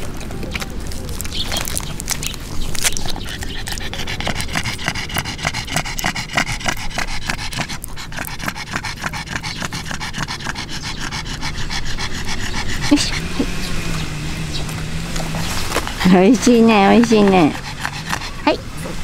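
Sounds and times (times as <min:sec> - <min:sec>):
dog panting: 0:02.7 - 0:19.0.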